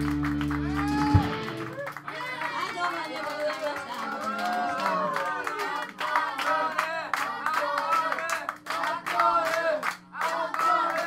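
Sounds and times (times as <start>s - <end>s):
handclaps: 0.0s - 11.0s.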